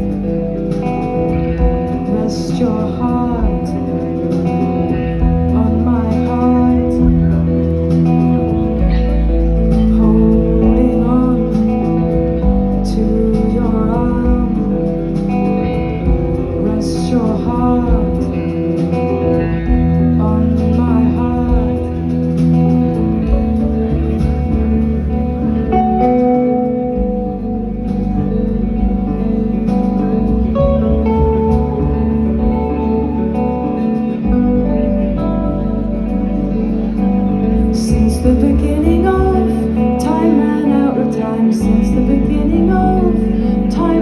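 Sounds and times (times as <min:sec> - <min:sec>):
guitar: 0:00.0 - 0:44.0
heavy bass: 0:00.0 - 0:44.0.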